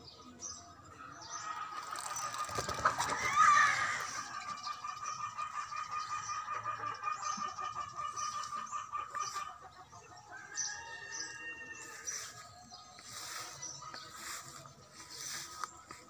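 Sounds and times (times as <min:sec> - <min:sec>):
chickens clucking: 0:00.2 - 0:16.0.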